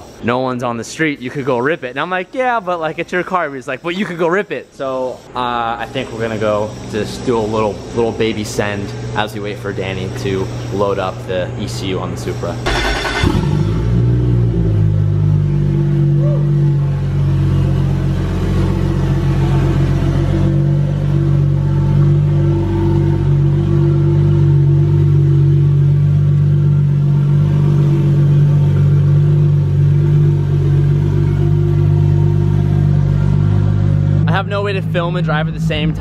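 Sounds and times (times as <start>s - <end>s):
car engine idling: 5.7s - 36.0s.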